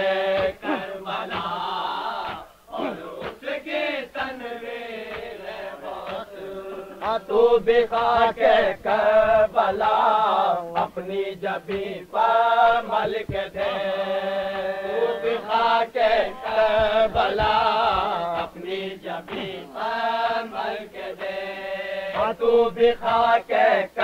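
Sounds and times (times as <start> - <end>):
men chanting devotional recitation: 0.0 - 24.0.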